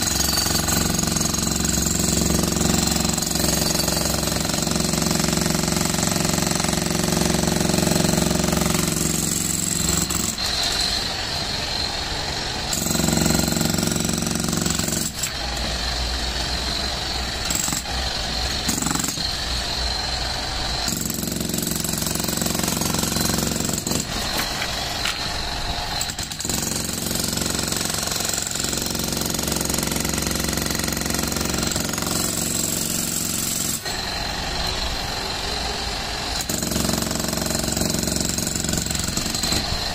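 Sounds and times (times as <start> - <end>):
demolition hammer chiselling concrete: 0.0 - 20.0, 20.6 - 39.9.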